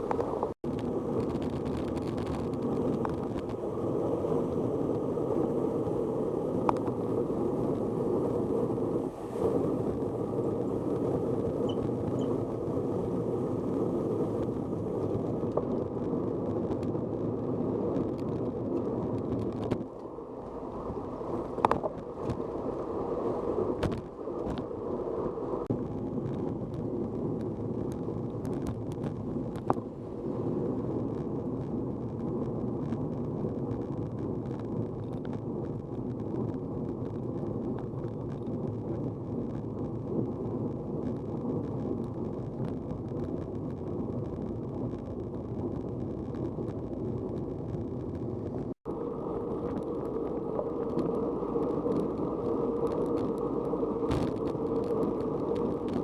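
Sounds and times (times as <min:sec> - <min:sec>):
wind and road rumble: 0:00.0 - 0:56.0.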